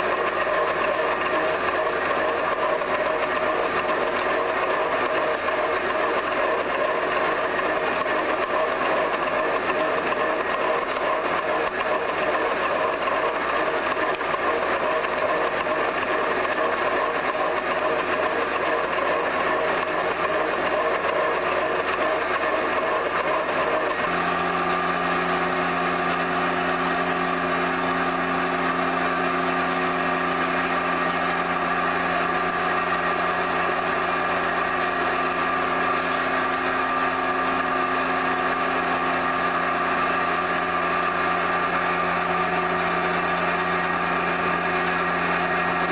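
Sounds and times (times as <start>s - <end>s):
workshop machinery running: 0.0s - 45.9s.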